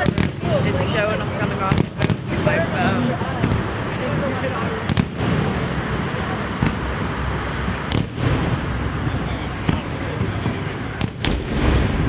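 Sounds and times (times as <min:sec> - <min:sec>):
fireworks bangs: 0:00.0 - 0:12.0
steady background din: 0:00.0 - 0:12.0.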